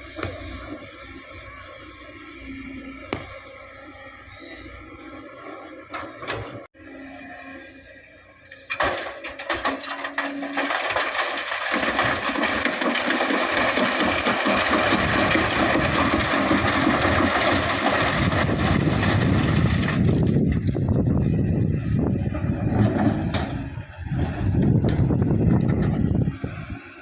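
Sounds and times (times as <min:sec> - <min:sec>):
excavator engine and moving sand: 0:00.0 - 0:27.0.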